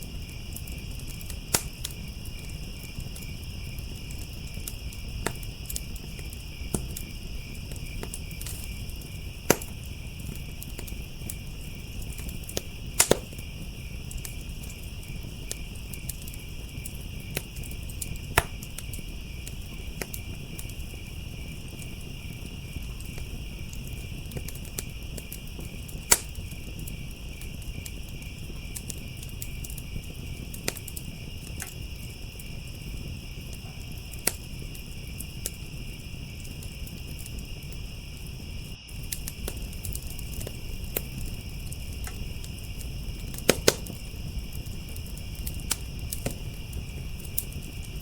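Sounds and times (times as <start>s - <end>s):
crickets chirping: 0.0s - 48.0s
fire crackling and popping: 0.0s - 48.0s.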